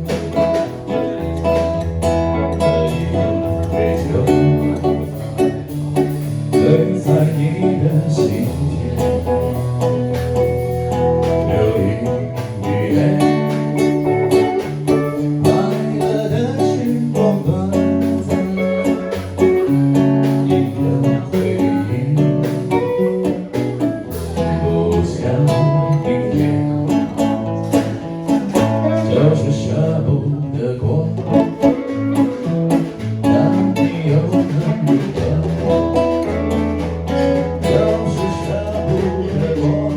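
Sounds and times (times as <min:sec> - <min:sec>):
acoustic and electric guitars: 0:00.0 - 0:39.9
drum keeping time: 0:00.0 - 0:39.9.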